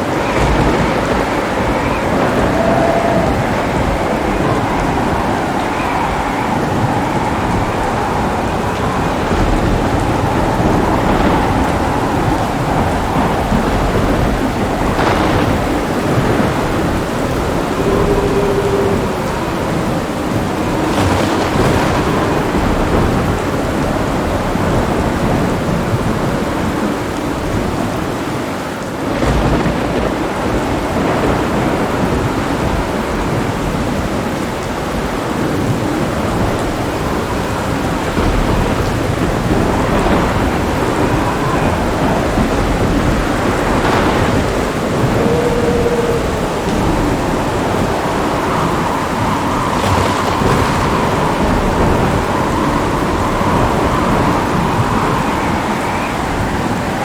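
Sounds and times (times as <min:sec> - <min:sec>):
heavy rain: 0:00.0 - 0:57.0
rolling thunder: 0:00.0 - 0:57.0.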